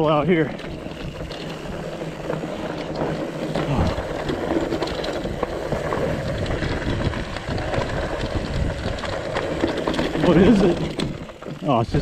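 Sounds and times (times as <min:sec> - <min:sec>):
bike clattering over rocks: 0:00.0 - 0:12.0
bike tyres crunching on dirt: 0:00.0 - 0:12.0.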